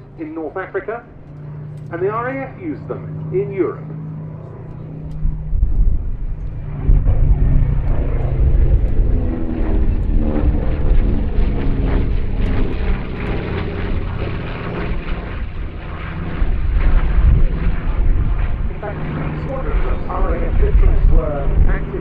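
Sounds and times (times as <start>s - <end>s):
propeller drone: 0.0s - 22.0s
radial engines rumbling: 0.0s - 22.0s.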